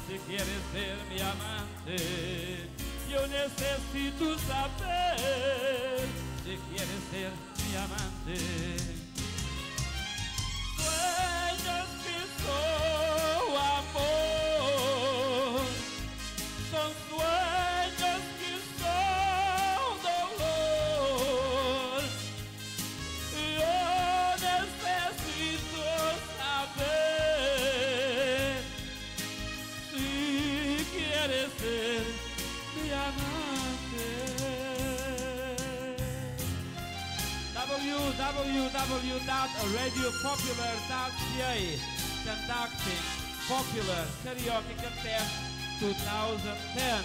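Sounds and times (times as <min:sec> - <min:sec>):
backing track with bass beat: 0:00.0 - 0:47.0
person singing ballad with vibrato: 0:00.0 - 0:47.0.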